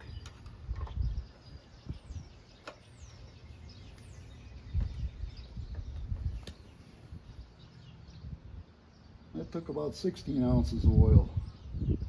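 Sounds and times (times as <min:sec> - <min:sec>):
birds chirping: 0:00.0 - 0:12.0
low rumbling wind noise: 0:00.0 - 0:12.0.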